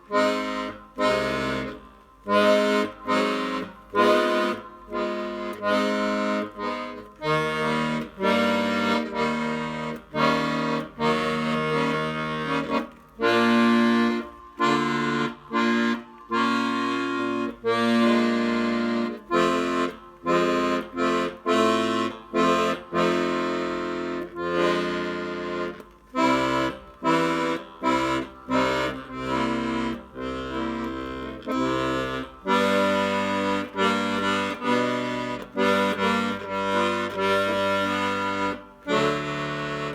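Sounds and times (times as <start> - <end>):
accordion bass notes and chords: 0.0 - 39.9.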